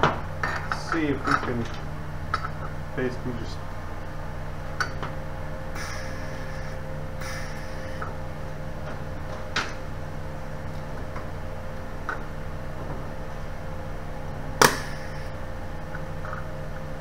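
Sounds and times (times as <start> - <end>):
welder electrical hum: 0.0 - 17.0.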